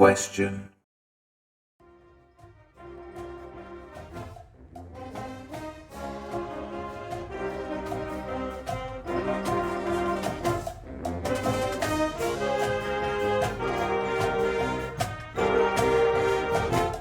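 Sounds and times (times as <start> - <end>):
orchestral music with brass: 1.8 - 17.0.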